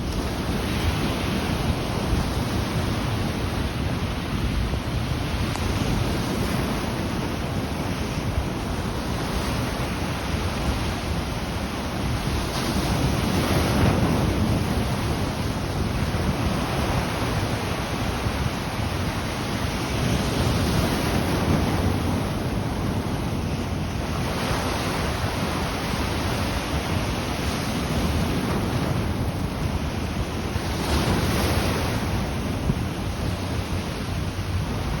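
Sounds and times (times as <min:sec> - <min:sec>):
ocean waves breaking on shore: 0:00.0 - 0:35.0
wind rumble on microphone: 0:00.0 - 0:35.0.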